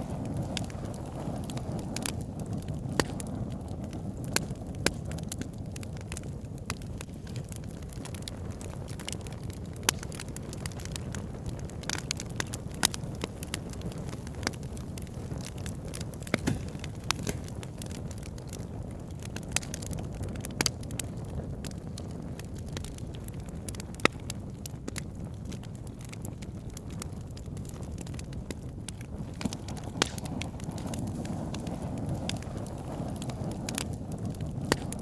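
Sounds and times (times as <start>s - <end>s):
logs crackling and popping: 0.0s - 35.0s
low rush of flame: 0.0s - 35.0s.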